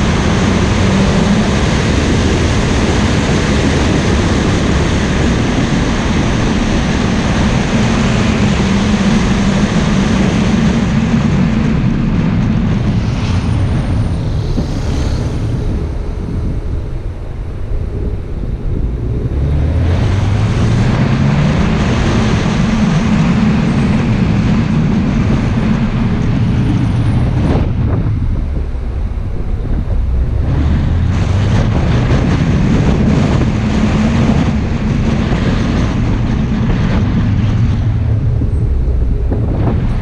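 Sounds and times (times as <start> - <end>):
car engine accelerating: 0.0 - 40.0
tyre and wind noise: 0.0 - 40.0.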